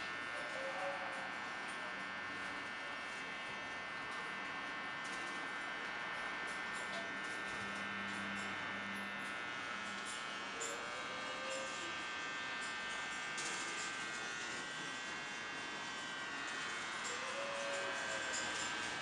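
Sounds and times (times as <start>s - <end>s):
electrical buzz with whining tones: 0.0s - 19.0s.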